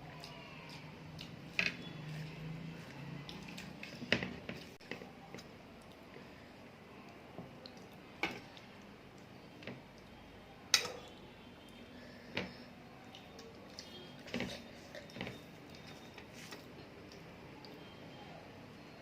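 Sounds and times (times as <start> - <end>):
soft squishy eating sounds: 0.0 - 18.6.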